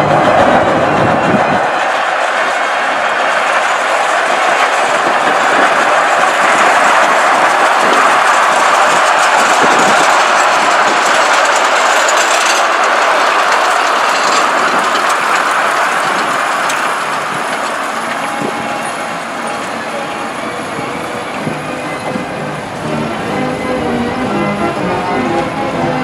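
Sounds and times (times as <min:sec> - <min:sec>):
train coaches clicking over track: 0:00.0 - 0:26.0.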